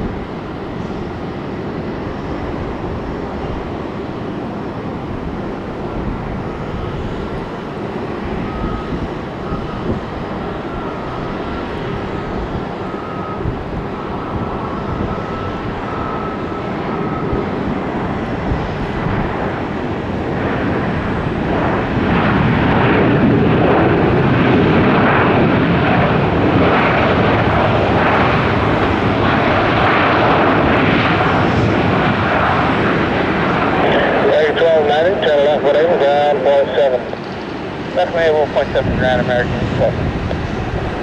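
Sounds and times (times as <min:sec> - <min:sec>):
faint engine whine: 0:00.0 - 0:41.0
jet engines roaring: 0:00.0 - 0:41.0.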